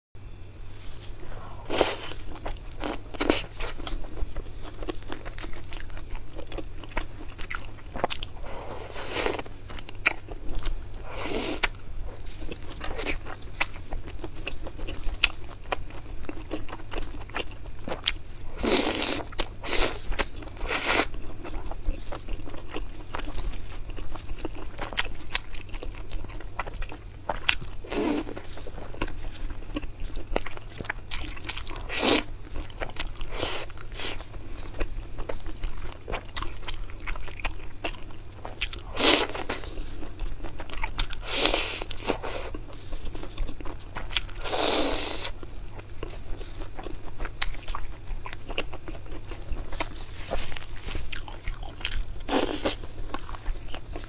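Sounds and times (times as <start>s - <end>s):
crunchy biting and chewing: 0.7s - 54.0s.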